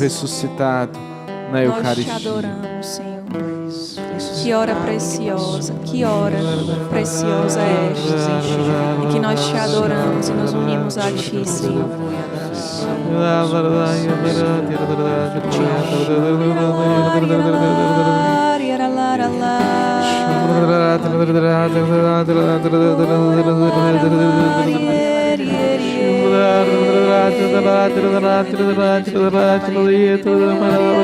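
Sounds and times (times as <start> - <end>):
sustained chords: 0.0 - 31.0
voices singing wordless chant: 1.5 - 31.0.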